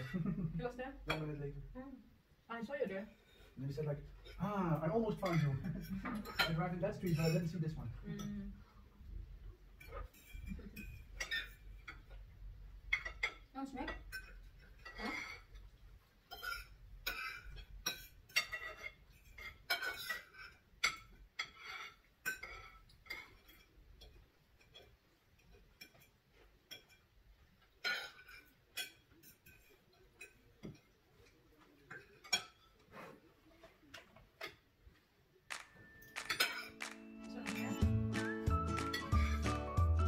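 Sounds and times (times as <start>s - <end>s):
cutlery clinking on plates: 1.0s - 1.5s, 3.1s - 8.4s, 9.7s - 40.0s.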